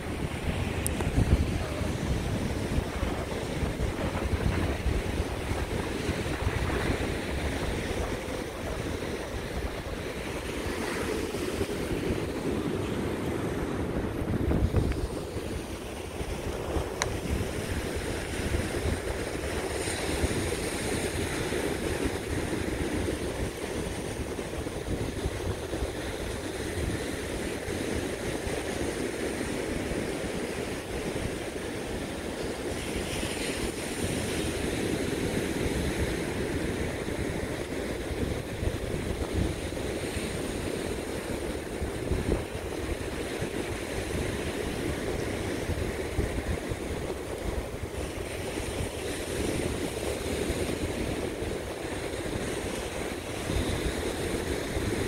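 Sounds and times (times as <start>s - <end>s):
ocean surf washing on beach: 0.0s - 55.0s
wind buffeting microphone: 0.0s - 55.0s.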